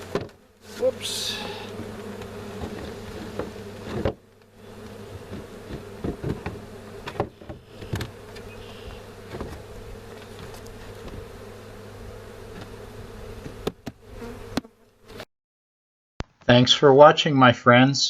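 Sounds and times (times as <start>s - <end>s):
bees buzzing: 0.0s - 15.2s.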